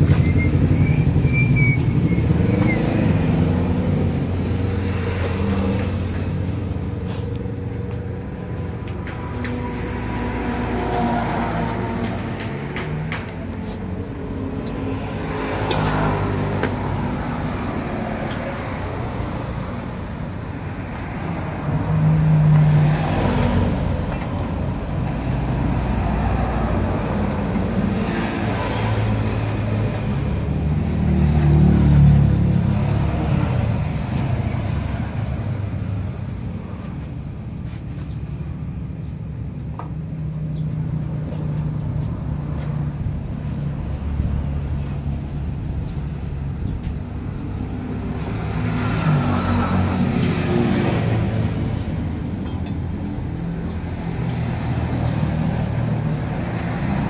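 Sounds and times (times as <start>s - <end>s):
vehicle engines droning: 0.0s - 57.0s.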